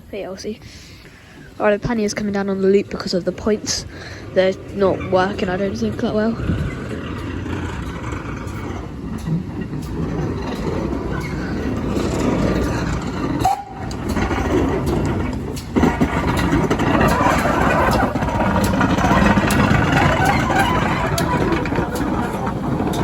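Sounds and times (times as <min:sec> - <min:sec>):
steam locomotive rumbling: 0:00.0 - 0:23.0.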